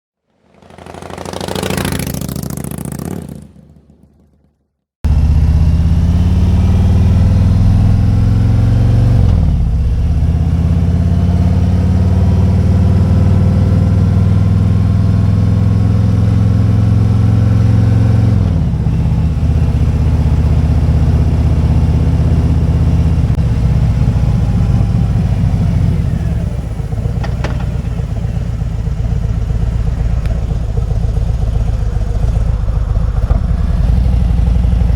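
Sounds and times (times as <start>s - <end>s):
motorcycle engine revving: 0.3s - 34.9s.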